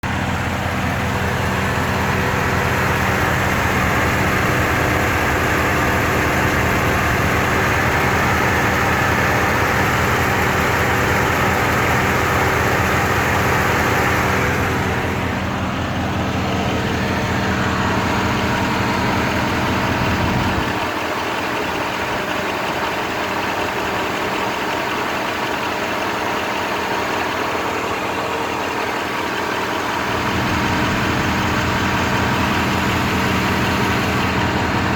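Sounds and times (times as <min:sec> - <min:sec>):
car engine idling with misfire: 0:00.0 - 0:34.9.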